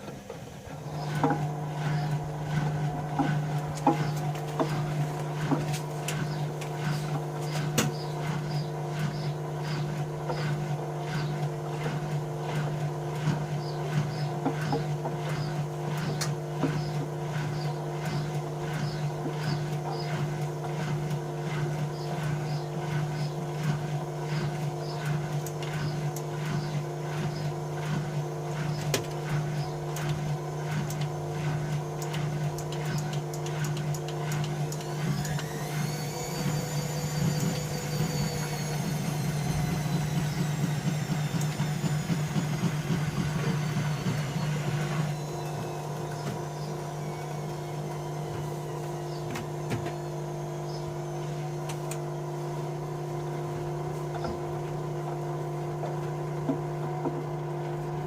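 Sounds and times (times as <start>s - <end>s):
motor hum: 0.0s - 58.0s
washing machine drum running: 0.0s - 58.0s.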